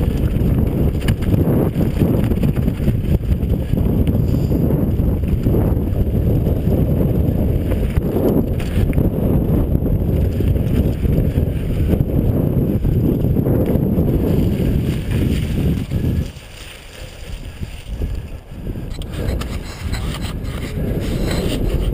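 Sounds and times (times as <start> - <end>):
bike rattling over stones: 0.0 - 21.9
wind buffeting microphone: 0.0 - 21.9.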